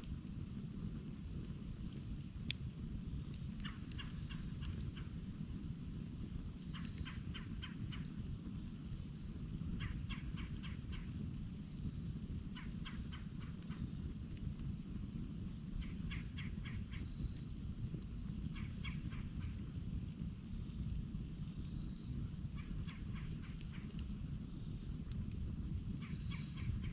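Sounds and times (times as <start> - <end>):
campfire burning: 0.0 - 26.9.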